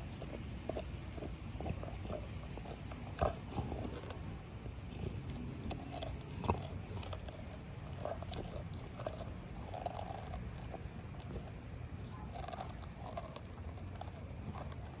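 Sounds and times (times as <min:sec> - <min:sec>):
low animal rumble: 0:00.0 - 0:15.0.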